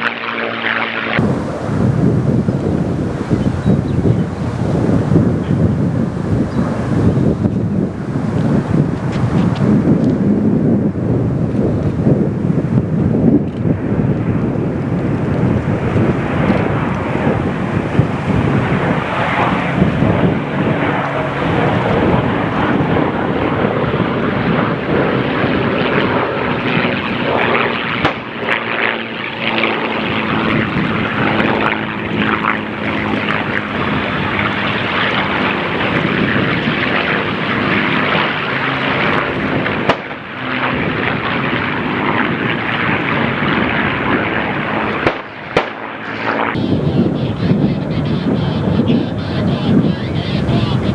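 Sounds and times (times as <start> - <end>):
propeller planes droning low: 0.0 - 50.9.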